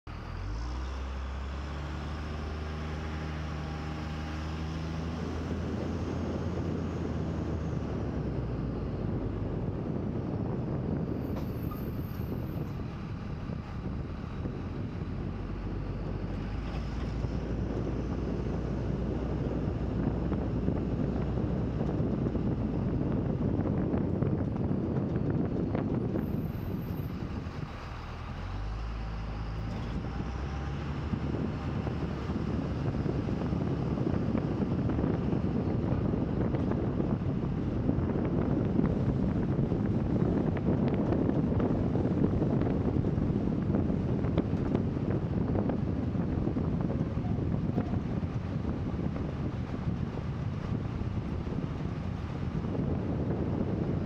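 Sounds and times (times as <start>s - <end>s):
wind and motion noise: 0.1s - 54.0s.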